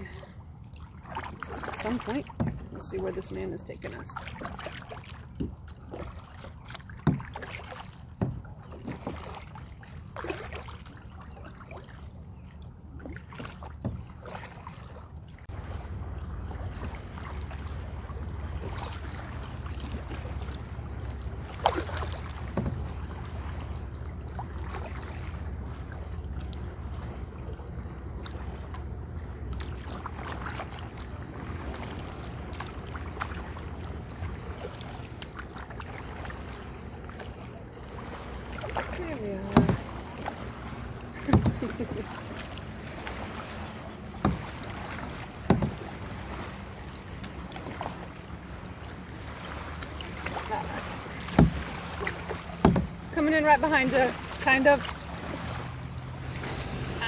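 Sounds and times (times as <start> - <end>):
kayak paddle splashing: 0.0 - 57.0.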